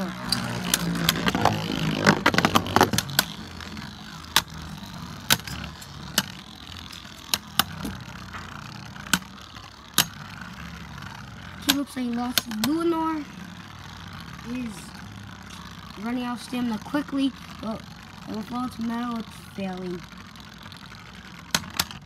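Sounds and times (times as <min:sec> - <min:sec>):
spinning tops clashing with clacks: 0:00.0 - 0:22.0
spinning tops whirring: 0:00.0 - 0:22.0.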